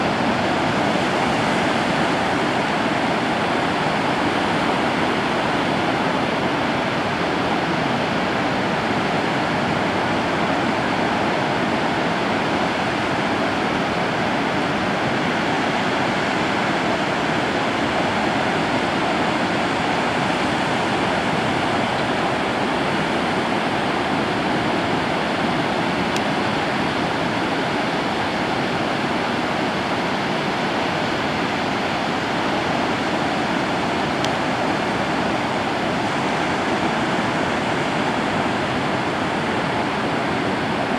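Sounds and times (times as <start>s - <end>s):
ocean surf breaking on sand: 0.0s - 40.9s.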